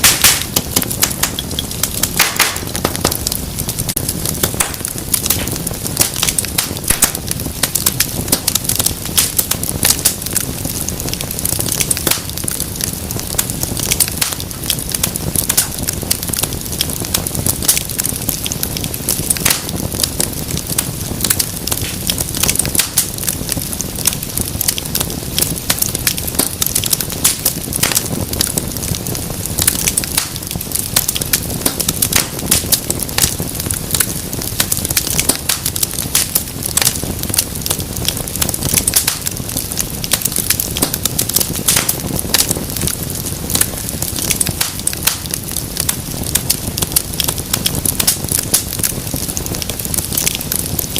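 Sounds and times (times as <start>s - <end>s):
low rush of flame: 0.0s - 50.9s
wood fire crackling and popping: 0.0s - 50.9s.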